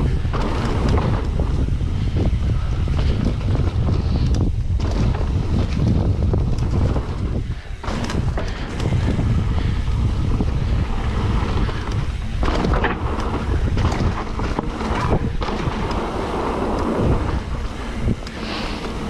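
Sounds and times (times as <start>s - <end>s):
bike knocking and rattling: 0.0s - 19.0s
tyres rumbling on dirt: 0.0s - 19.0s
wind buffeting microphone: 0.0s - 19.0s.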